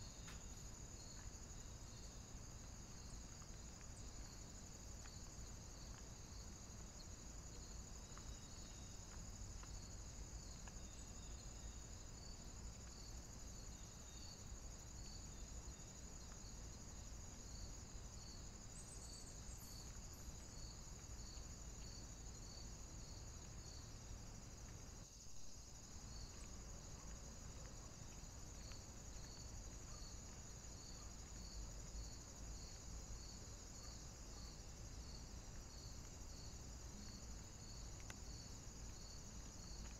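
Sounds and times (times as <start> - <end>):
crickets trilling and chirping: 0.0 - 39.9
low background hiss: 0.0 - 39.9.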